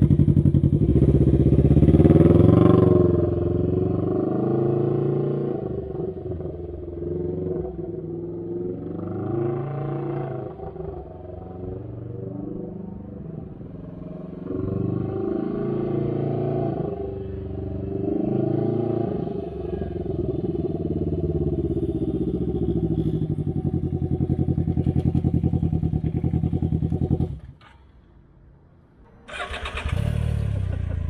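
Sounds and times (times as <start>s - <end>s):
engine revving and idling: 0.0s - 27.6s, 29.3s - 31.0s.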